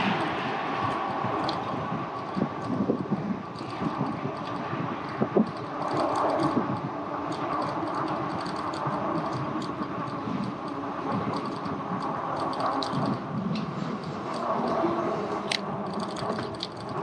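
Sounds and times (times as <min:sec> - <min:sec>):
bike rattles and clicks: 0:00.0 - 0:17.0
e-bike rolling hum: 0:00.0 - 0:17.0.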